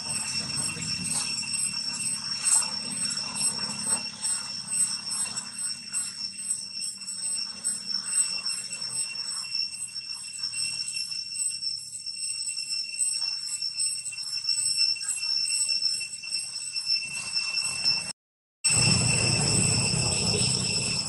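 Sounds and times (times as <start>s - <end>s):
insects buzzing: 0.0s - 17.1s.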